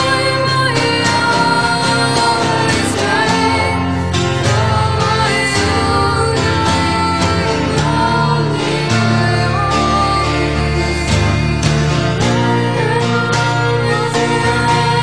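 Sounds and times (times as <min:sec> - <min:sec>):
guitar: 0:00.0 - 0:15.0
song with singing: 0:00.0 - 0:15.0.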